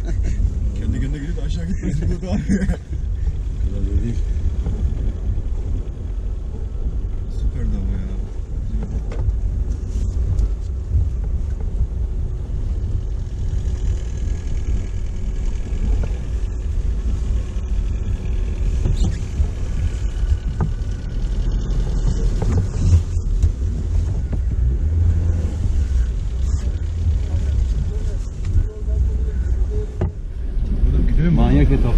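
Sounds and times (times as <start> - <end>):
off-road vehicle engine rumble: 0.0 - 31.9.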